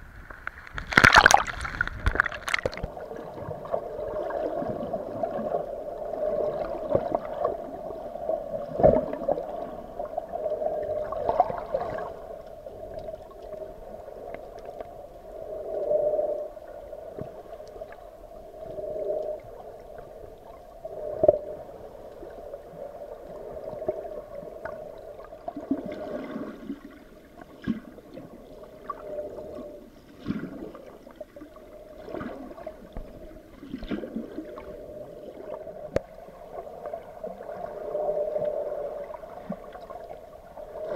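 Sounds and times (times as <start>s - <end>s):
hollow underwater drone: 0.0s - 40.9s.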